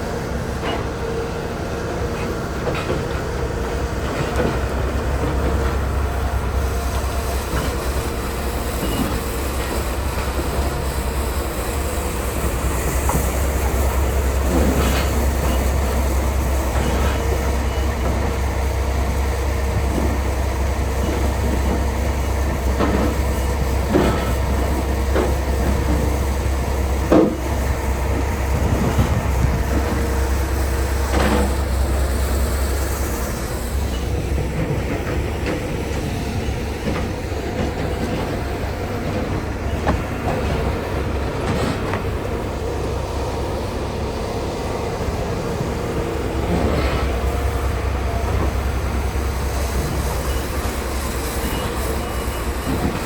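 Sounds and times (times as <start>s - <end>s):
truck engine and road drone: 0.0s - 53.0s.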